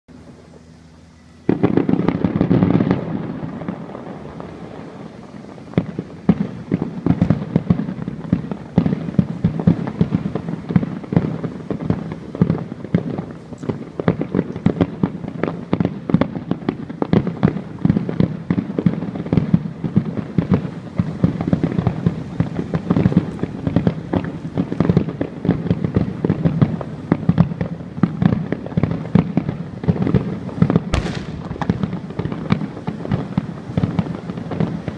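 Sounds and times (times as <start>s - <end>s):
fireworks bangs and crackles: 1.4s - 34.9s.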